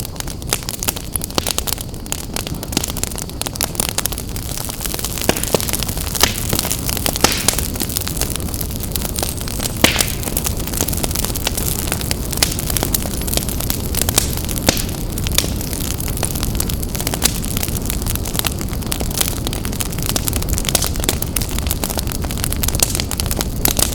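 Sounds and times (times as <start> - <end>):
wood fire crackling and popping: 0.0 - 23.9.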